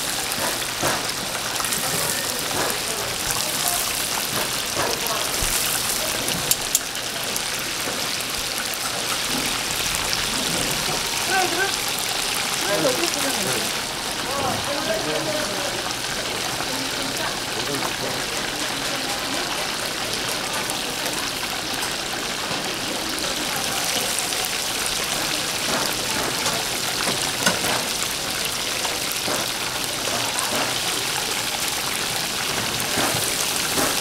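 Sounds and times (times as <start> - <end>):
chicken sizzling in hot oil: 0.0 - 34.0.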